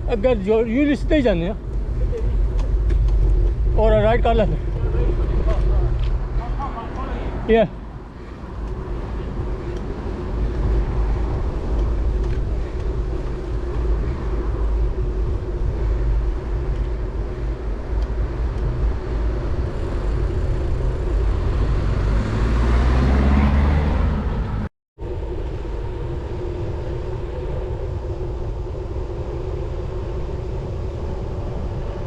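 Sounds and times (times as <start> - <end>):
road traffic: 0.0 - 32.0
wind rumble on microphone: 0.0 - 32.0
motor vehicle passing: 1.2 - 32.0.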